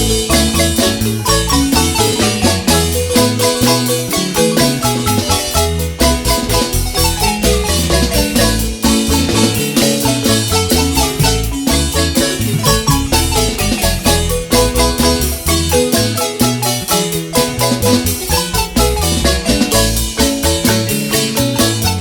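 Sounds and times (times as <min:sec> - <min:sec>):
deep bass line: 0:00.0 - 0:22.0
fast marimba mallet notes: 0:00.0 - 0:22.0.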